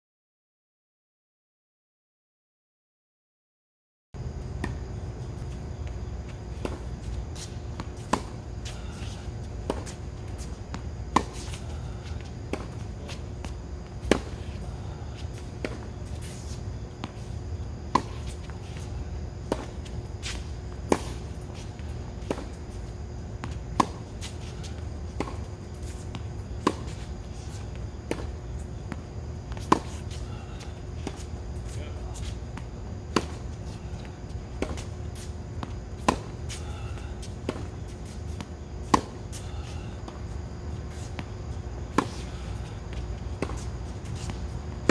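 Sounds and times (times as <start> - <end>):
tennis balls struck by racket: 4.5 - 44.9.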